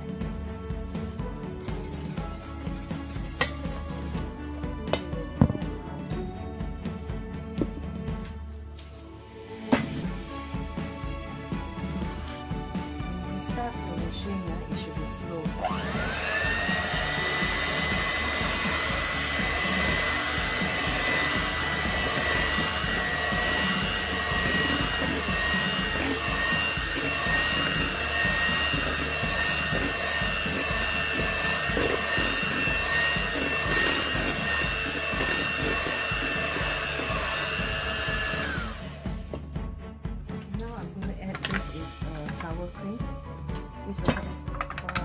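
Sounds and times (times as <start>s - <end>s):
electric hand mixer whining: 0.0s - 6.2s, 9.8s - 39.7s.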